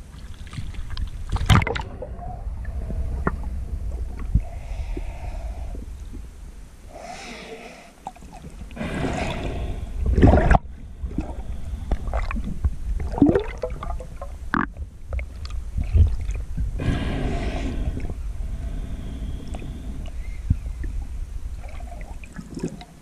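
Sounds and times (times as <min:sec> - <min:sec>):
underwater rushing bubbling water: 0:00.7 - 0:05.0, 0:08.5 - 0:22.8.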